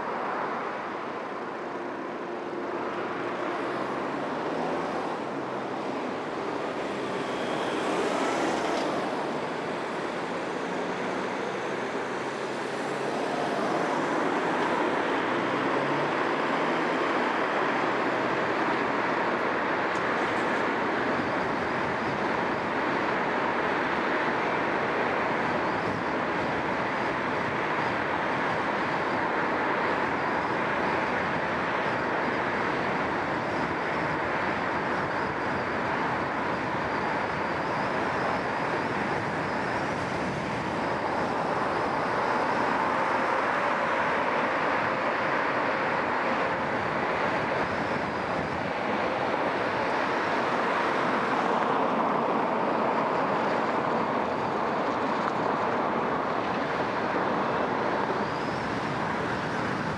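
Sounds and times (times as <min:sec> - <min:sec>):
car tyre and road noise: 0:00.0 - 0:59.9
surrounding traffic: 0:00.0 - 0:59.9.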